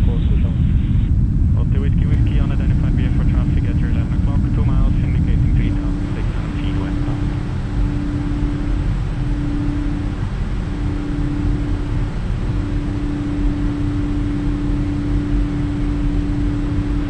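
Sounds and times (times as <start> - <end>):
aircraft engine and airflow roar: 0.0 - 17.0
steady cabin hum: 0.0 - 17.0.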